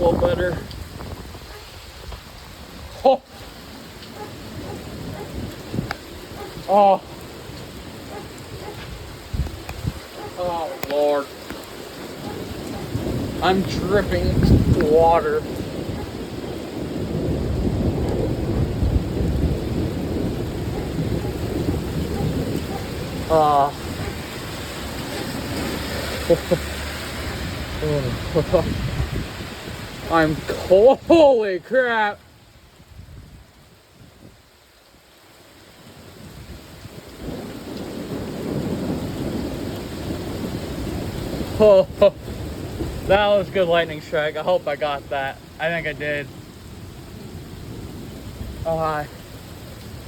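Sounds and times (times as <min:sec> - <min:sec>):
thunder rumbling: 0:00.0 - 0:03.1, 0:03.7 - 0:31.2, 0:36.2 - 0:50.0
heavy rain: 0:00.0 - 0:50.0.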